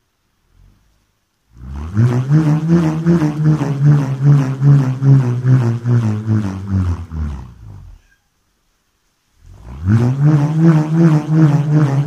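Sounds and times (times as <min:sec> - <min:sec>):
low buzzing drone: 0:00.5 - 0:08.2, 0:09.4 - 0:12.0.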